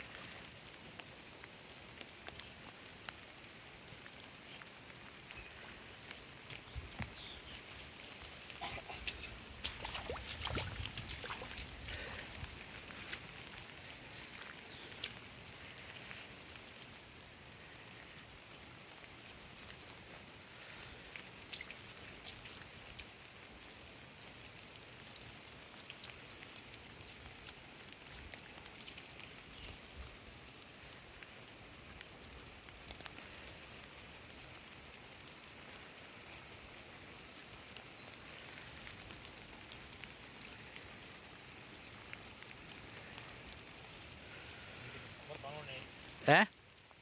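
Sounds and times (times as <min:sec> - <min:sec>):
faint steady hiss: 0:00.0 - 0:47.0.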